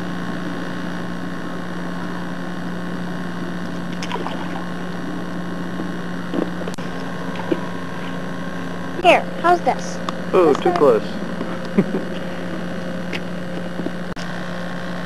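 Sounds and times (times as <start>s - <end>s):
tape hum and hiss: 0.0s - 15.0s.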